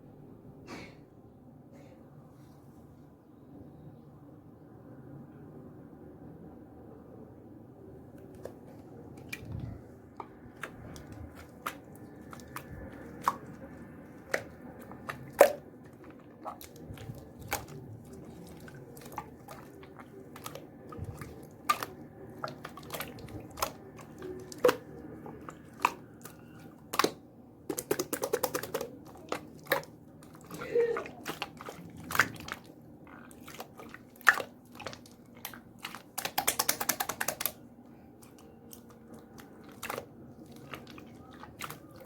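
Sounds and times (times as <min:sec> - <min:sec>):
slime squished by hand: 0:08.2 - 0:42.0.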